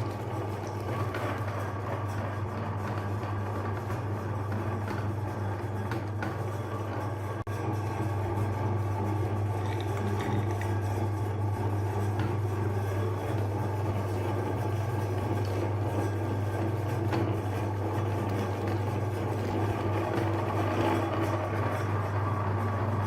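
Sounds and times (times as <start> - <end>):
electric meat grinder motor hum: 0.0 - 23.0.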